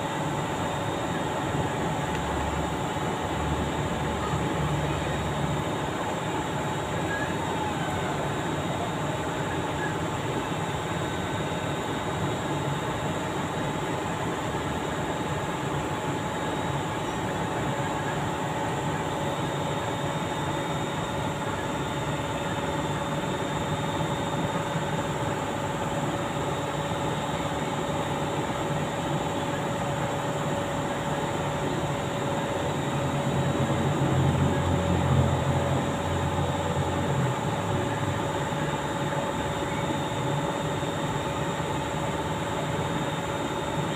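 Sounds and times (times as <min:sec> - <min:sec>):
faint high whine: 0:00.0 - 0:43.9
machinery drone: 0:00.0 - 0:43.9.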